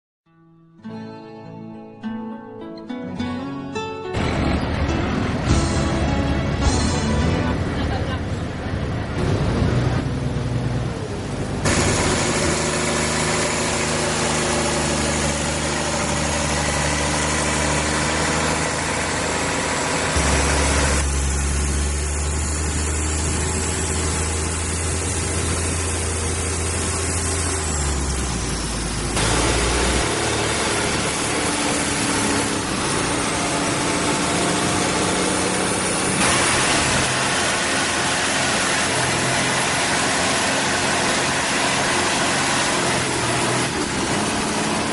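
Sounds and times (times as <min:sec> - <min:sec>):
boat engine running: 0:04.1 - 0:44.9.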